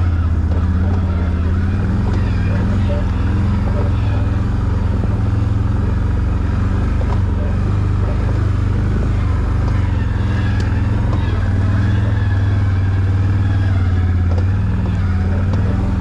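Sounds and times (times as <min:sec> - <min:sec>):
atv engine droning: 0:00.0 - 0:16.0.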